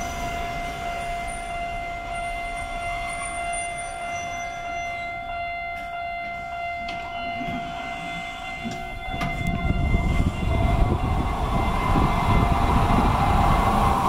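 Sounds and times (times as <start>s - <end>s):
electric train equipment whine: 0.0s - 14.0s.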